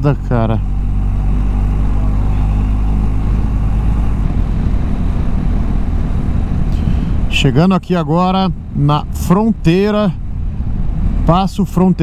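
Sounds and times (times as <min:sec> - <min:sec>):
motorcycle engine cruising: 0:00.0 - 0:11.4
wind and road noise: 0:00.0 - 0:12.0.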